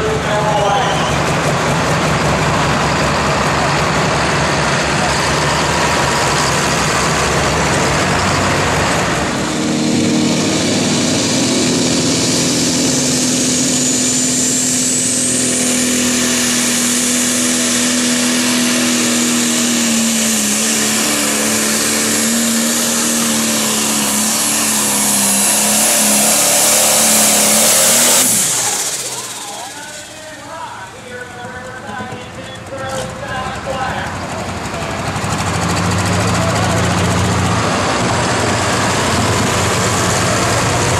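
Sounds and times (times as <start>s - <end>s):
tractor diesel engine under load: 0.0s - 40.9s
turbocharger whine: 0.0s - 40.9s.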